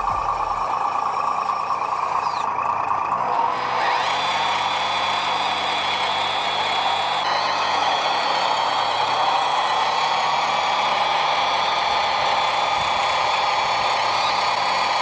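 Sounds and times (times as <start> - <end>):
electric motor and gearbox whining: 0.0 - 15.0.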